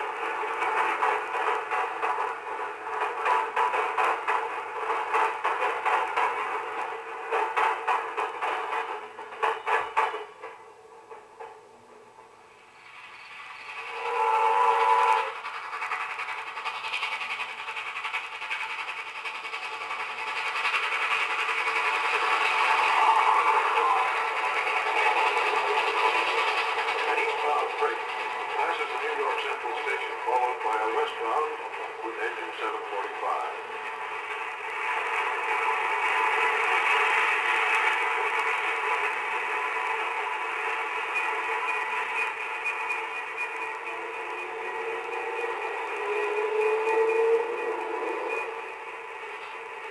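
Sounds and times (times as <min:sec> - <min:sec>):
freight train rolling past: 0:00.0 - 0:49.9
steam locomotive chuffing: 0:00.0 - 0:49.9.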